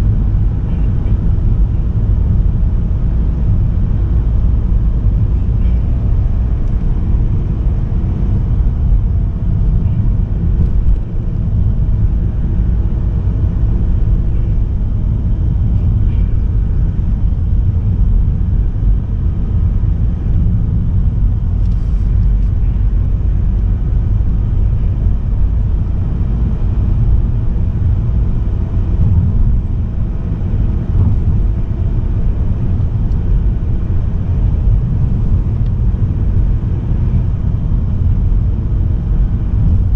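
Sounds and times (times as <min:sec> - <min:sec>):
car road and tyre rumble: 0:00.0 - 0:39.9.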